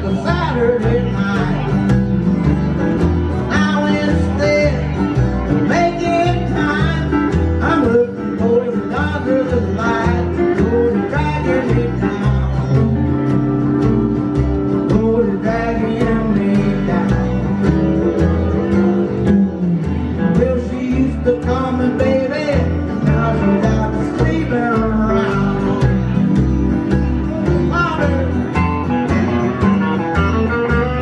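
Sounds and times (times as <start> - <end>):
man singing: 0.0 - 2.1, 3.4 - 31.0
band beat: 0.0 - 31.0
strummed acoustic guitar: 0.0 - 31.0.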